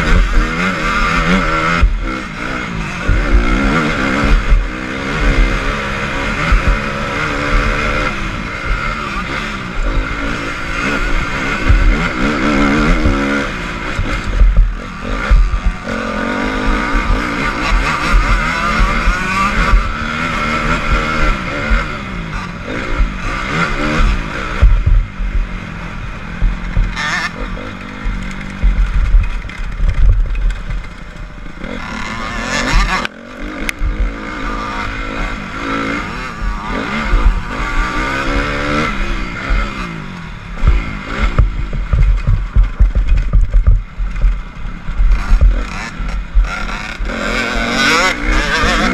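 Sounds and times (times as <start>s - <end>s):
motorbike engine revving: 0.0s - 48.9s.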